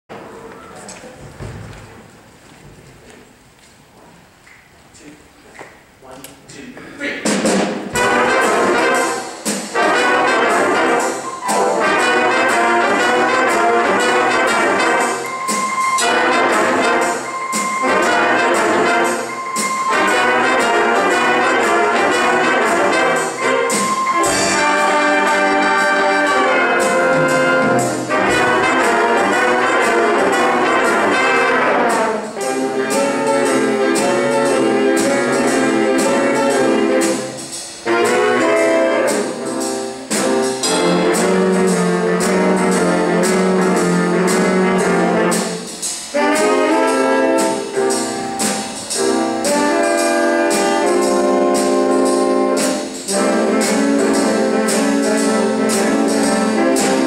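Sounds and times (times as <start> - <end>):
jazz big band playing: 7.2 - 57.0.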